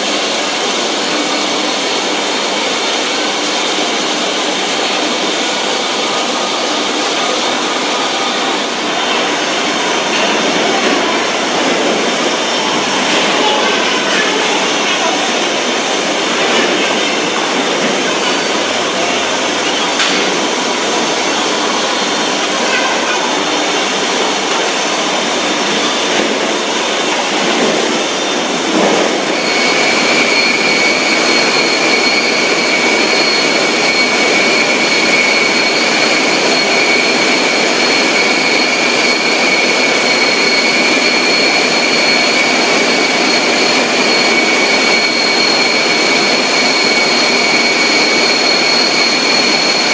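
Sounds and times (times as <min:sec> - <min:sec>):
factory machinery running: 0:00.0 - 0:49.9
high whine: 0:00.1 - 0:49.9.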